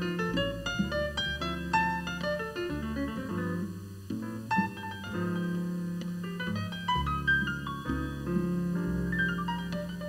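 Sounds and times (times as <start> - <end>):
jazz grand piano: 0.0 - 10.0
plucked double bass: 0.0 - 10.0.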